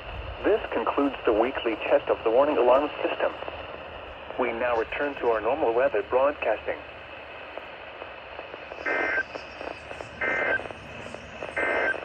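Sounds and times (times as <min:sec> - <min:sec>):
radio receiver hissing: 0:00.5 - 0:12.0.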